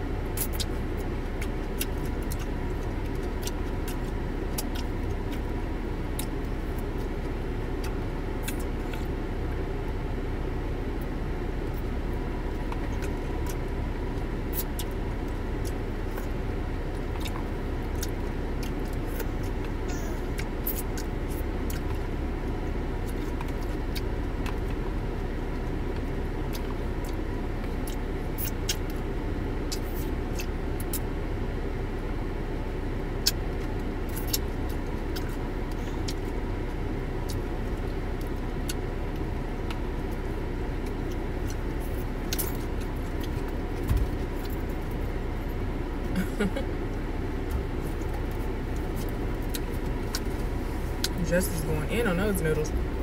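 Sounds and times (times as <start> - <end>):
car engine rumble and hum: 0.0 - 53.0.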